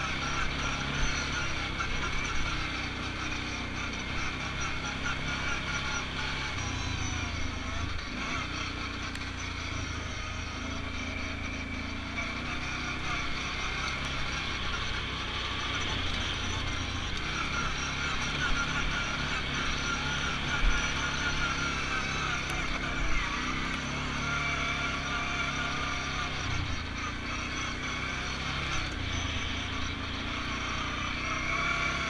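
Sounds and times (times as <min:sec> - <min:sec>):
quad engine running: 0:00.0 - 0:32.0.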